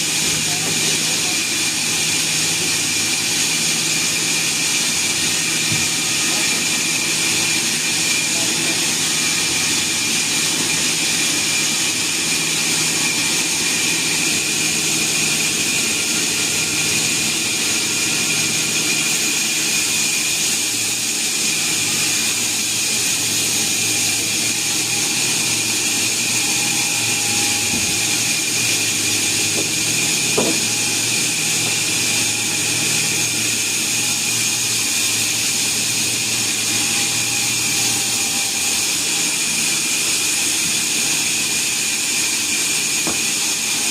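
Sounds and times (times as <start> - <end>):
sawmill machinery whining: 0.0 - 43.9.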